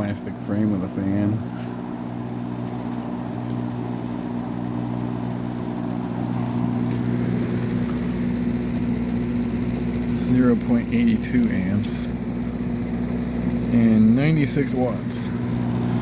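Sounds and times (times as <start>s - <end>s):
fan motor hum: 0.0s - 16.0s.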